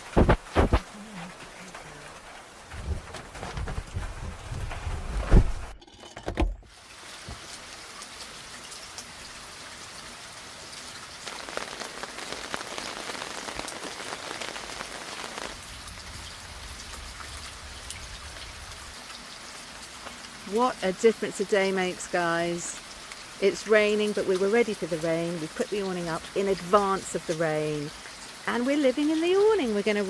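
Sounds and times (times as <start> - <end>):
steady rain: 0.0 - 5.4, 6.8 - 30.0.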